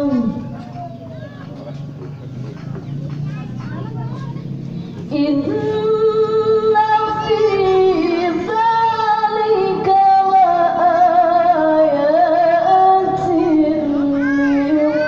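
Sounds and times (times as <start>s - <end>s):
woman reciting melodically: 0.0s - 0.9s, 3.8s - 15.0s.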